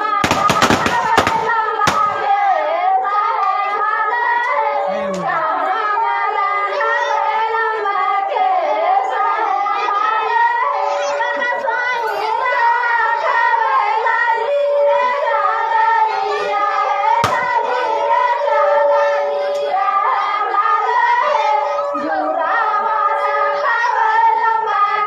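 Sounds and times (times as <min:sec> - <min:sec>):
women singing together: 0:00.0 - 0:25.0.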